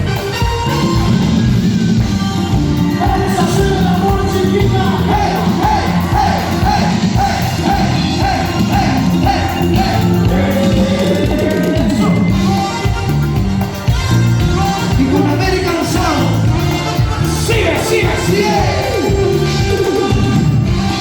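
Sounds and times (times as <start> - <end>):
cumbia band music: 0.0 - 21.0.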